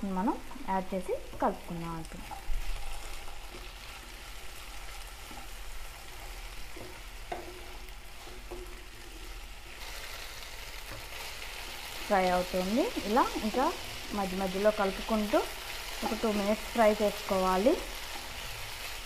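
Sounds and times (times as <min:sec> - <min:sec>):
potatoes sizzling in hot oil: 0:00.0 - 0:19.0.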